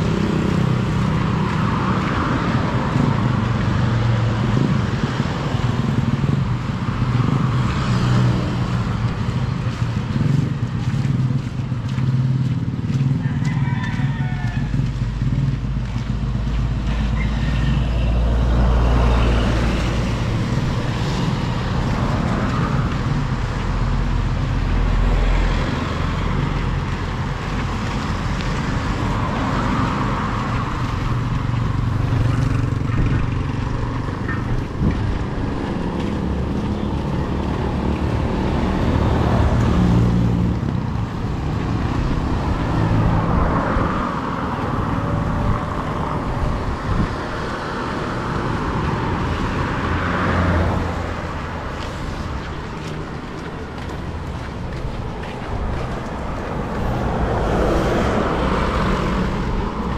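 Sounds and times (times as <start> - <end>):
motor vehicles driving past: 0.0 - 59.9.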